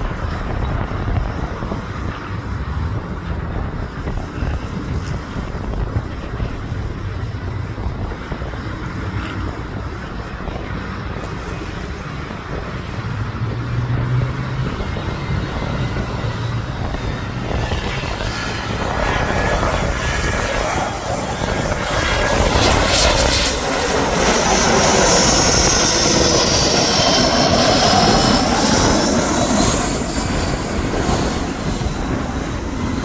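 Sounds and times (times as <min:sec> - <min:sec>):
aircraft engines droning: 0:00.0 - 0:33.0
wind rumbling on microphone: 0:00.0 - 0:33.0.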